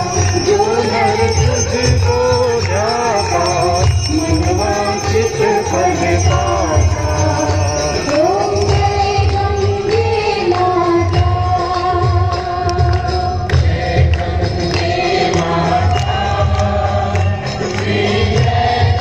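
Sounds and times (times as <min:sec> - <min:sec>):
jingling percussion: 0:00.0 - 0:19.0
steady drum beat: 0:00.0 - 0:19.0.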